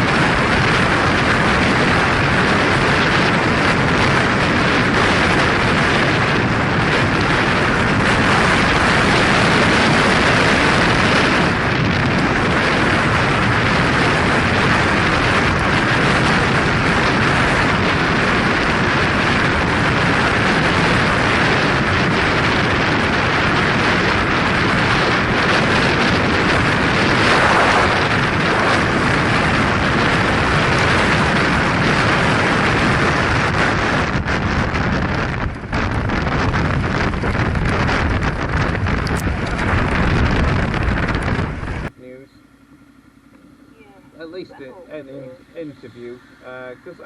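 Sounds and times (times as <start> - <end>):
rushing wind: 0.0 - 47.0
vehicle road noise: 0.0 - 47.0.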